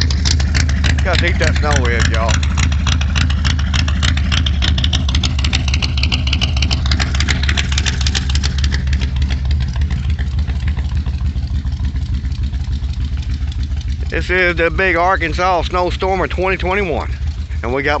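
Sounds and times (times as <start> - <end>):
car engine idling: 0.0 - 18.0
exhaust pulsing: 0.0 - 18.0.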